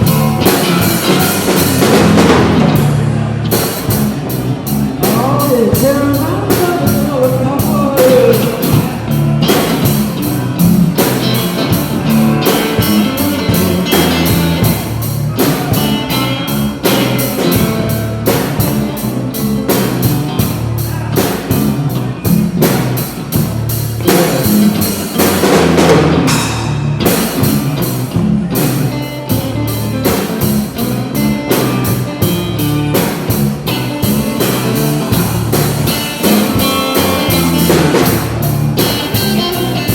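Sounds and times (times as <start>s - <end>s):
electric guitar: 0.0s - 39.9s
rock drum beat: 0.0s - 39.9s.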